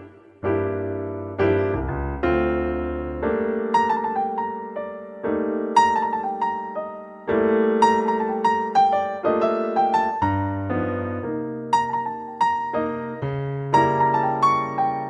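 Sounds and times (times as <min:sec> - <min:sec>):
slow calm piano music: 0:00.0 - 0:15.0.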